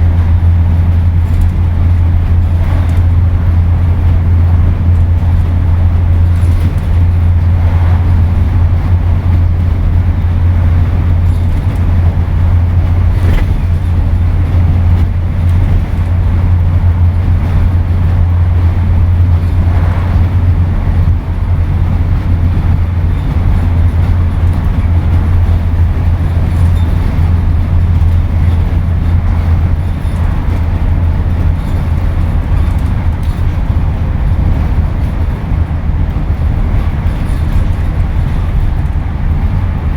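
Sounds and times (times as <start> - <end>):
bus engine droning: 0.0 - 39.9
rushing road noise: 0.0 - 39.9.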